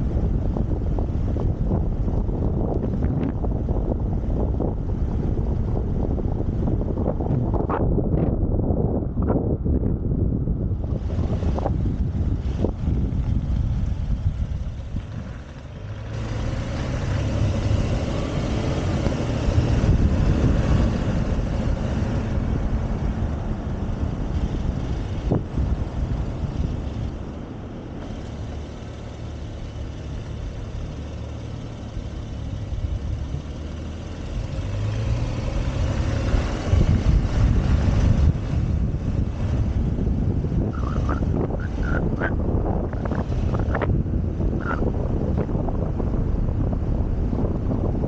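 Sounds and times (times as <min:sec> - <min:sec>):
car engine accelerating: 0:00.0 - 0:48.0
wind and road noise: 0:00.0 - 0:48.0.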